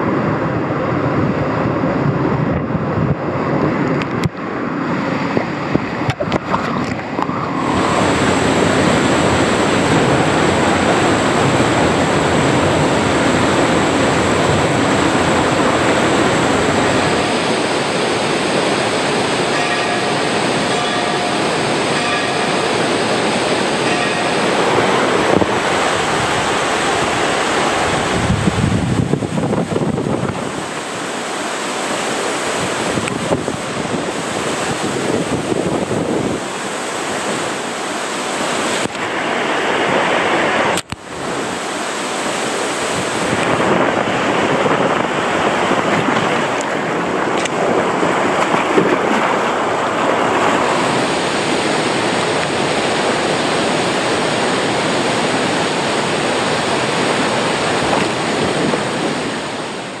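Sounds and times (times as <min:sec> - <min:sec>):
water rushing down waterslide: 0:00.0 - 1:00.0
wind on microphone: 0:00.0 - 1:00.0.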